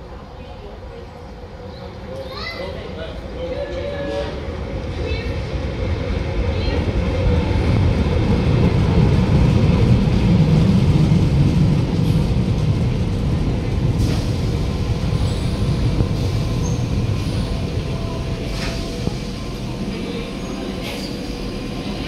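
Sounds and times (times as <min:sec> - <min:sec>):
train wheels rumbling on rail: 0:00.1 - 0:22.0.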